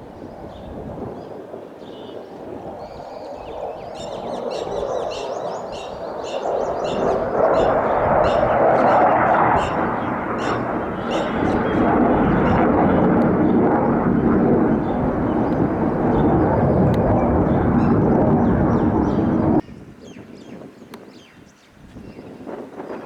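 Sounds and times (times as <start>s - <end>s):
fighter jet engine roar: 0.0s - 19.6s
birds chirping faintly: 2.8s - 22.3s.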